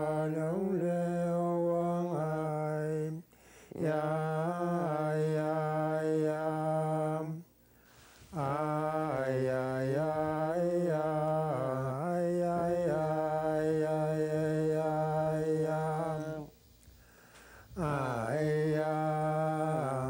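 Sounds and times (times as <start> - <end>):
person singing unaccompanied: 0.0 - 7.5, 8.3 - 16.6, 17.7 - 20.0.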